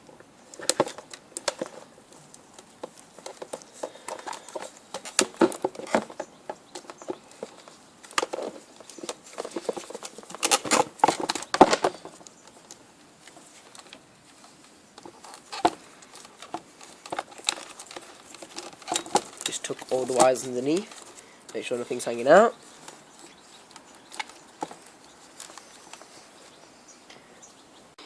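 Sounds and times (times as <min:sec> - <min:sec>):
plastic vacuum cleaner parts rattling: 0:00.5 - 0:01.9, 0:02.6 - 0:12.7, 0:15.0 - 0:26.2.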